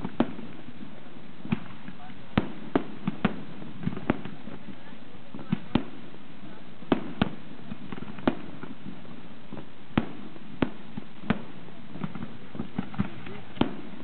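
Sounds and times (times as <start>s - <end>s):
background hiss: 0.0s - 14.0s
firework shells bursting: 0.0s - 14.0s.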